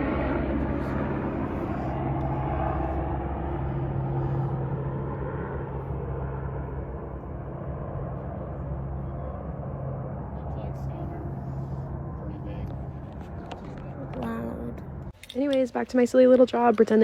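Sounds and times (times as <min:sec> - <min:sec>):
low mechanical drone: 0:00.0 - 0:15.2.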